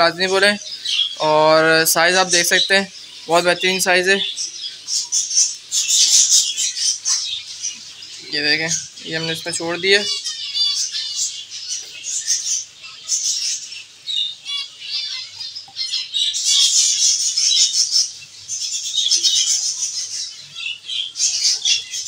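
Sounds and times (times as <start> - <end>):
zebra finches chirping: 0.0 - 22.0.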